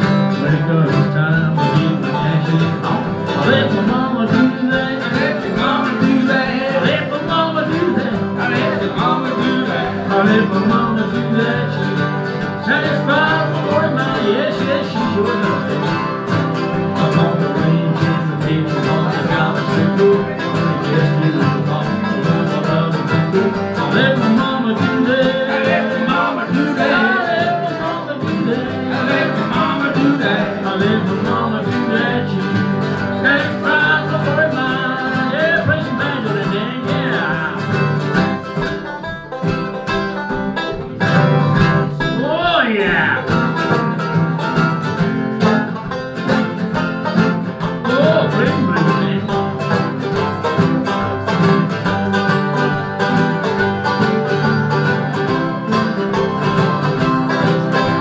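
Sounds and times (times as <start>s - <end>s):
acoustic guitars strumming: 0.0s - 58.0s
banjo picking: 0.0s - 58.0s
mandolin: 0.0s - 58.0s.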